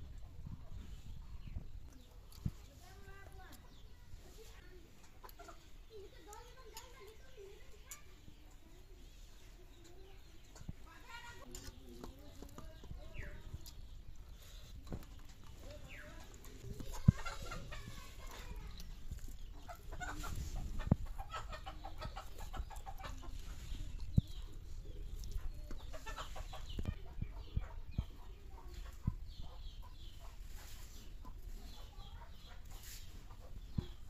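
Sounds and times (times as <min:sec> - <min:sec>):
chickens clucking: 0:00.0 - 0:34.0.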